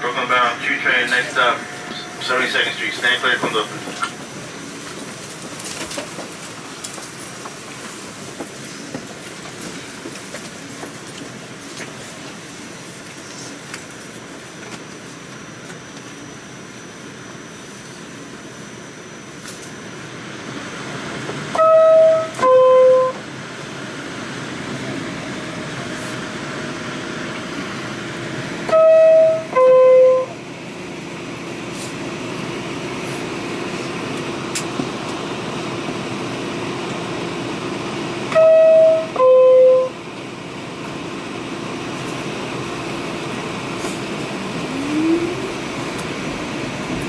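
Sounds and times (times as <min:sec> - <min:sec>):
subway car rumble and hum: 0:00.0 - 0:47.0.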